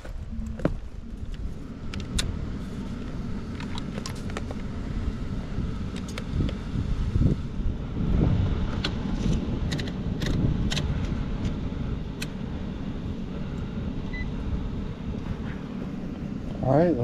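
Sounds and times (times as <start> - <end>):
heat pump fan and compressor rumble: 0.0 - 17.0.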